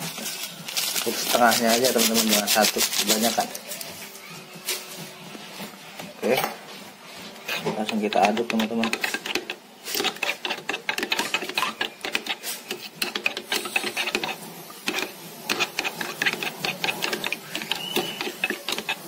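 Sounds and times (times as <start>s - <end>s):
metal spoon stirring in plastic bowl: 0.1s - 4.0s, 7.2s - 19.0s.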